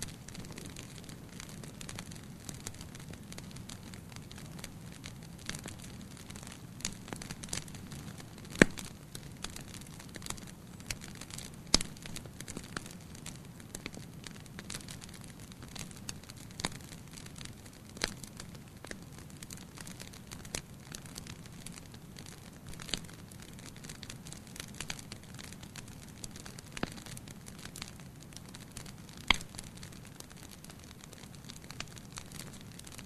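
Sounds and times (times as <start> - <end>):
fire crackling: 0.0 - 33.0
low hiss of fire: 0.0 - 33.0.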